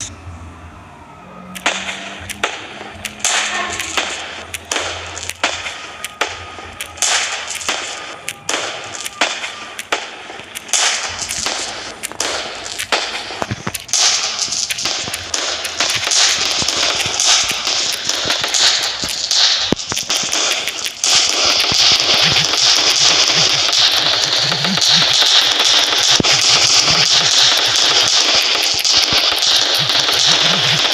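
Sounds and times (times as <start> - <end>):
fireworks bangs and crackling: 1.5 - 30.9.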